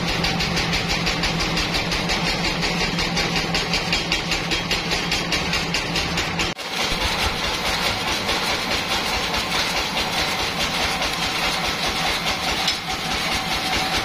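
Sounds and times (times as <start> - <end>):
band sawmill running: 0.0 - 14.0.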